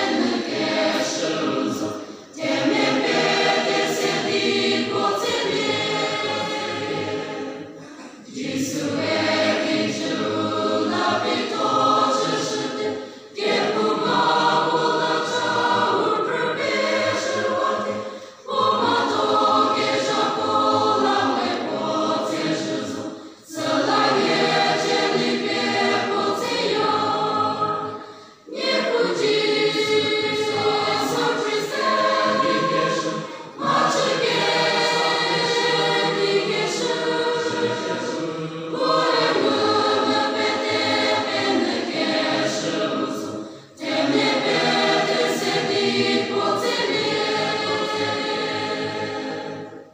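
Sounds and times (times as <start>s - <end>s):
church choir singing a hymn: 0.0s - 49.9s.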